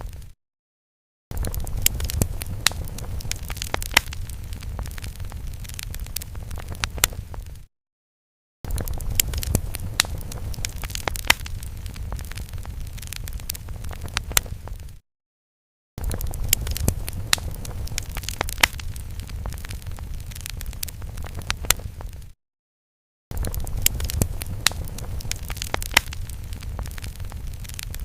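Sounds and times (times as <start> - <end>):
fire crackling and popping: 0.0 - 0.4, 1.3 - 7.7, 8.7 - 15.0, 16.0 - 22.4, 23.3 - 28.0
fire rumbling: 1.3 - 7.7, 8.7 - 15.0, 16.0 - 22.4, 23.3 - 28.0.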